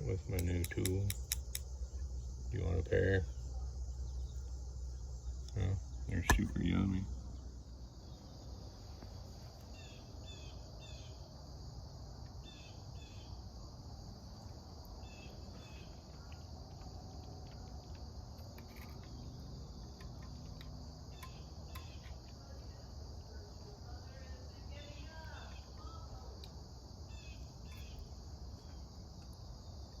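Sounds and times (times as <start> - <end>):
cricket chirps: 0.0 - 30.0
crickets trilling: 0.0 - 30.0.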